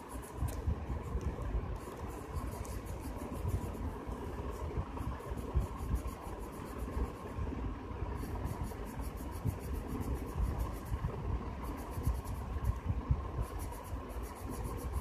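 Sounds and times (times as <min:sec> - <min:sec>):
pen scratching on paper: 0:00.0 - 0:07.4, 0:08.2 - 0:15.0
low background rumble: 0:00.0 - 0:15.0.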